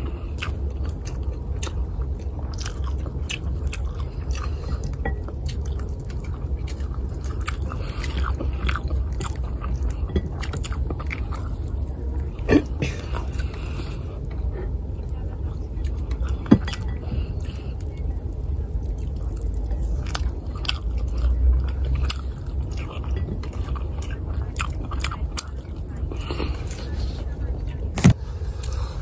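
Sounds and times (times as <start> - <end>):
person chewing food: 0.0 - 27.4.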